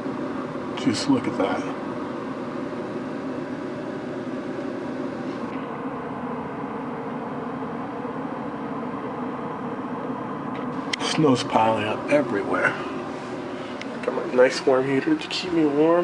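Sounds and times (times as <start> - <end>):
heater humming with hiss: 0.0 - 16.0.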